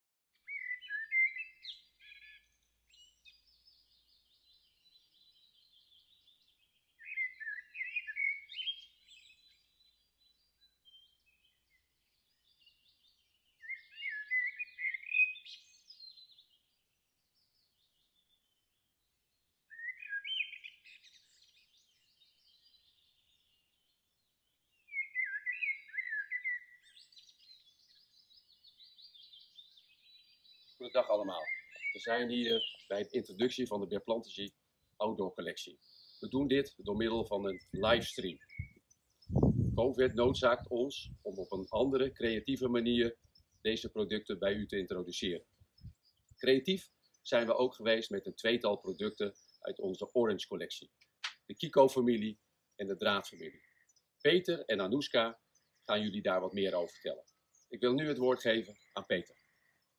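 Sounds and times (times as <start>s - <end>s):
songbird singing: 0.3s - 59.9s
high bird chirping: 0.4s - 59.9s.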